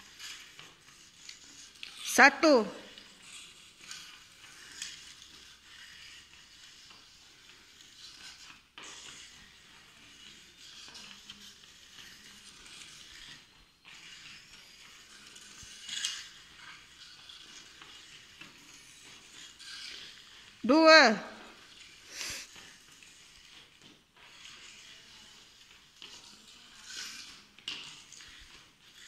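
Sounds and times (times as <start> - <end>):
stick scraping on tiled floor: 0.0 - 2.1, 2.8 - 20.6, 21.4 - 29.0.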